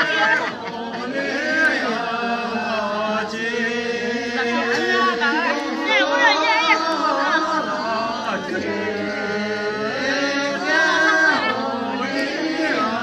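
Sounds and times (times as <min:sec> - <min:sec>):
group of people singing: 0:00.0 - 0:13.0.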